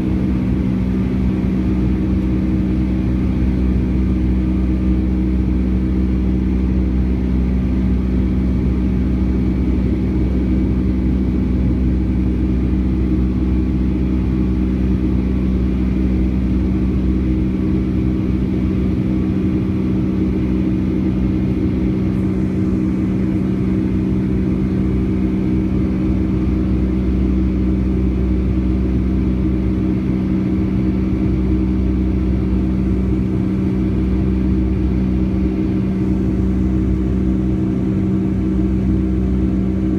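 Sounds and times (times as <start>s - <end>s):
jet engines heard in cabin: 0.0s - 39.9s.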